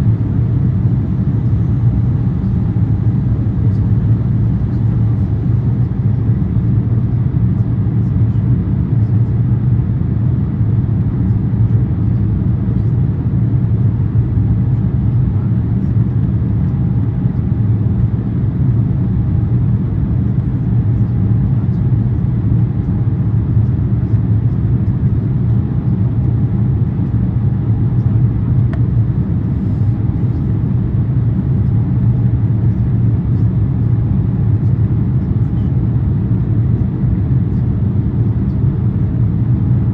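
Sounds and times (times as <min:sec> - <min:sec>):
faint higher hum: 0:00.0 - 0:39.9
low engine rumble: 0:00.0 - 0:39.9.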